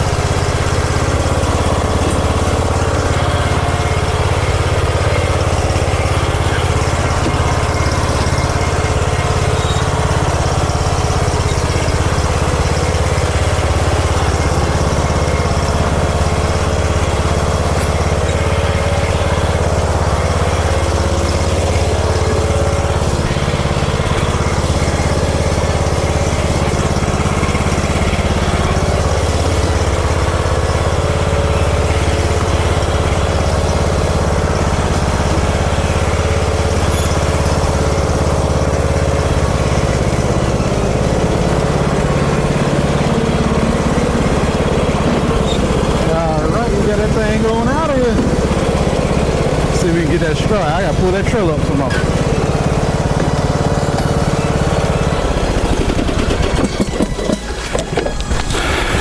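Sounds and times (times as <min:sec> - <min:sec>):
riding lawn mower engine running: 0:00.0 - 0:59.0.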